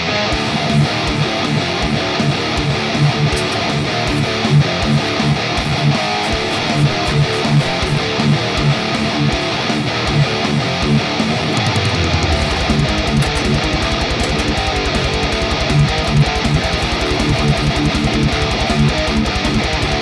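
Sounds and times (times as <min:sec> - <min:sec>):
strummed guitar music with beat: 0:00.0 - 0:20.0.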